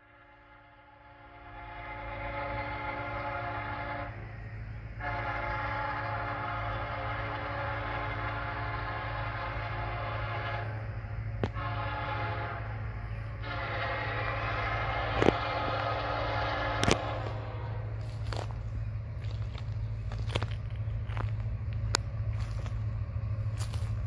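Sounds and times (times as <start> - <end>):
locomotive air horn blasts: 0.0 - 24.0
steady low rumble: 1.1 - 24.0.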